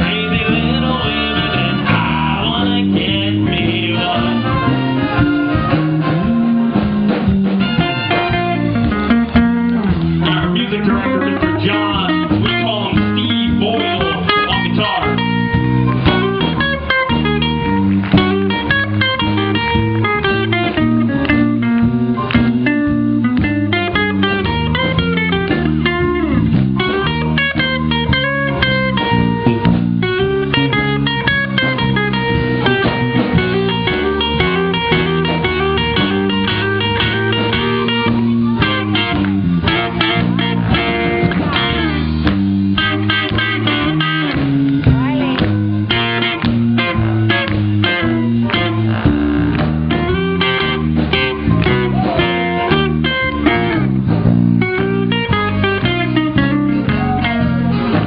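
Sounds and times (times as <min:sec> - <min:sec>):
bass line: 0:00.0 - 0:58.0
drums: 0:00.0 - 0:58.0
electric guitar solo: 0:04.0 - 0:58.0.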